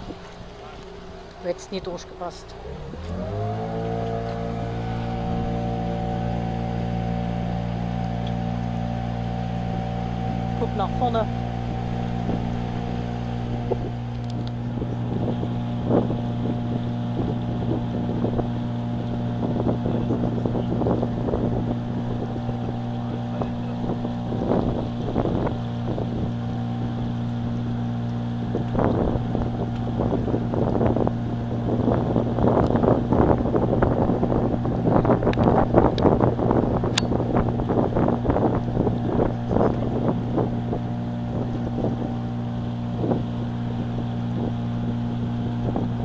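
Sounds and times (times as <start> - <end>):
motorboat engine droning: 0.0 - 46.0
wind buffeting microphone: 0.0 - 46.0.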